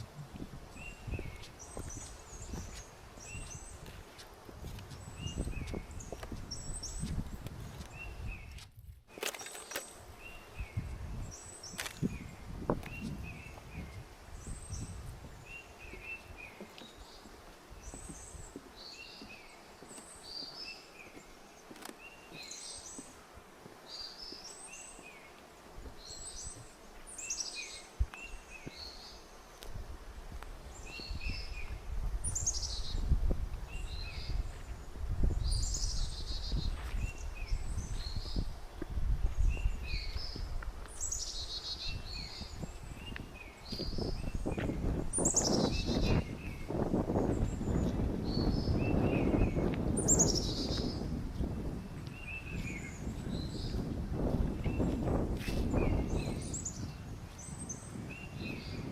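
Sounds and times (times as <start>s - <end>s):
footsteps on forest trail: 0.0s - 58.7s
songbirds chirping: 0.0s - 58.9s.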